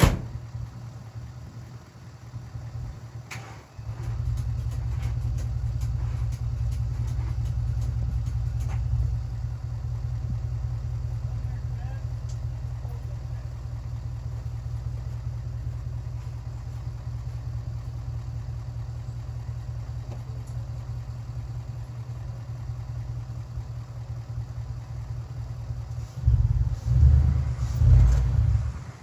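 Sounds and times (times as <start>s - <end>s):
low car engine drone: 0.0s - 29.0s
loud low rumble: 3.8s - 29.0s.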